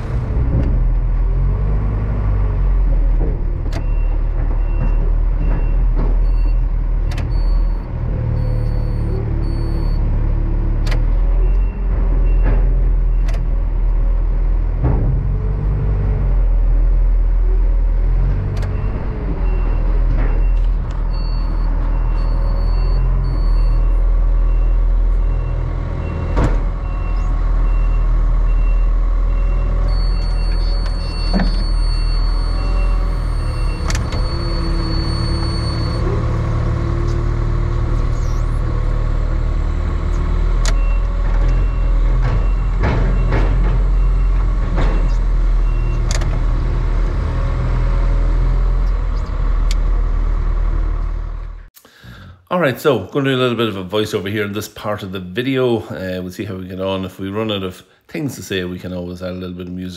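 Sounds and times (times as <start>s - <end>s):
engine running under load: 0.0s - 52.3s.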